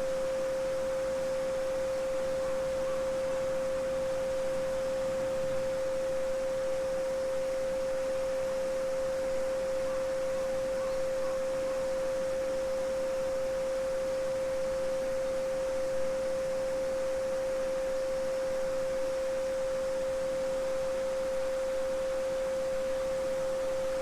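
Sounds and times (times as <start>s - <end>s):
pure sine tone: 0.0s - 24.0s.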